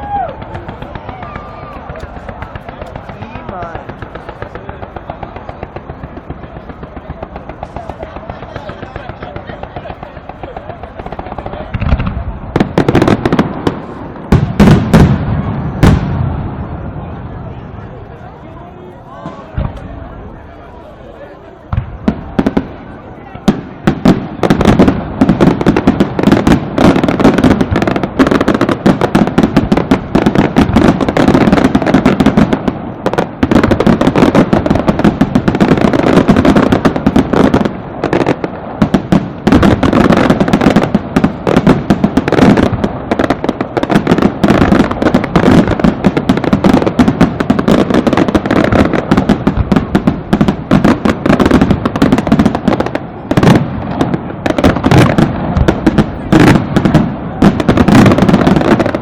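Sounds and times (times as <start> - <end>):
fireworks banging and crackling: 0.0 - 59.0.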